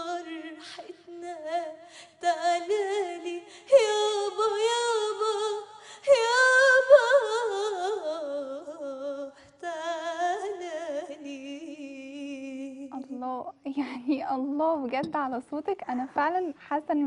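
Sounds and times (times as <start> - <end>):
girl singing into a microphone: 0.0 - 13.7.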